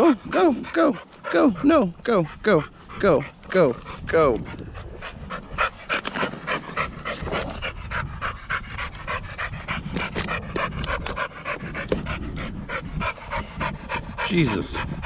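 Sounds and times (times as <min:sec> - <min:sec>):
dog panting hard: 0:00.0 - 0:15.0.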